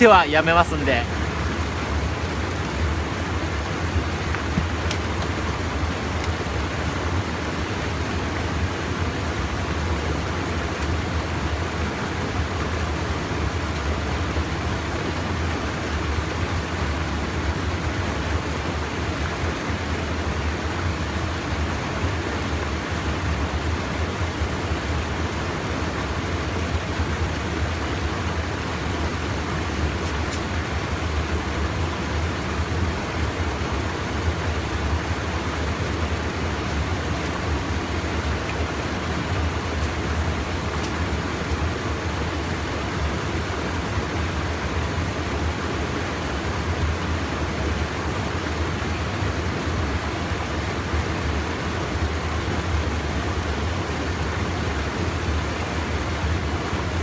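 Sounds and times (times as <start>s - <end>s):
stream water pouring over weir: 0.0s - 57.0s.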